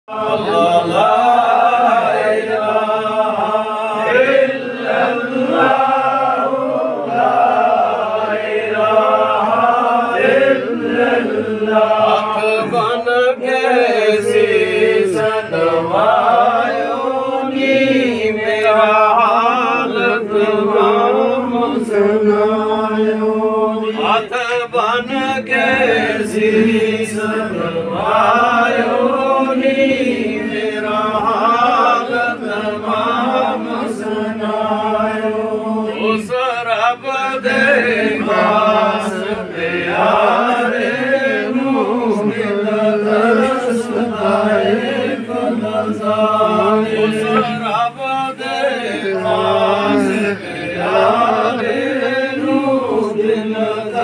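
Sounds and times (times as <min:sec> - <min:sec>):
men chanting: 0:00.1 - 0:54.0.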